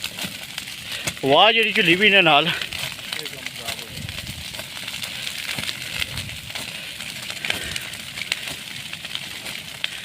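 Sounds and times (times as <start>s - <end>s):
wildfire crackling: 0.0s - 10.0s.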